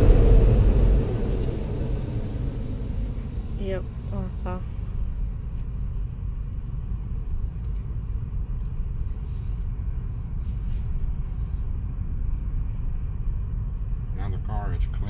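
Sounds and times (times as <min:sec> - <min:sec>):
car cabin low rumble: 0:00.0 - 0:15.0.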